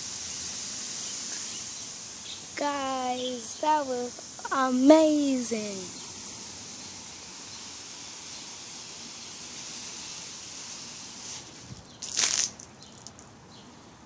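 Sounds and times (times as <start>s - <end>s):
mixture fizzing with high hiss: 0.0s - 13.2s.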